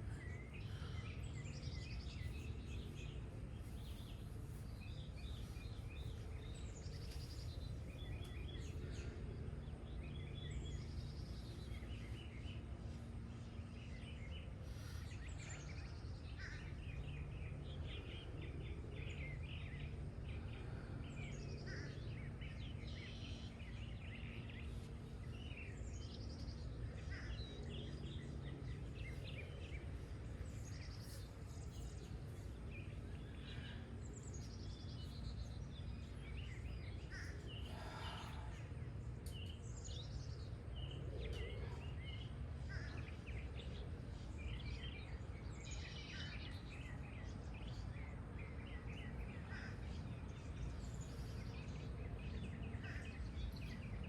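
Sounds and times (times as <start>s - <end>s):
low background hum: 0.0s - 54.0s
songbirds singing and chirping: 0.0s - 54.0s.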